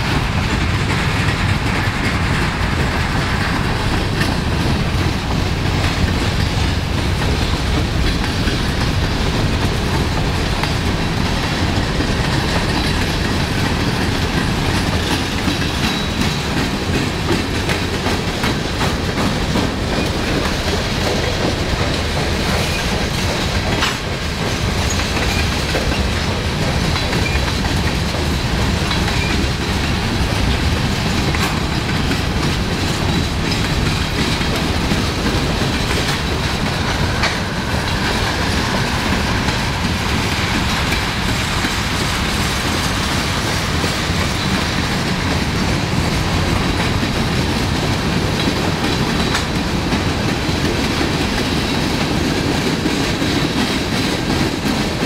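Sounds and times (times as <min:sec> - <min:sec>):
freight train wheels rumbling: 0:00.0 - 0:55.0
wheels clacking over rail joints: 0:00.0 - 0:55.0.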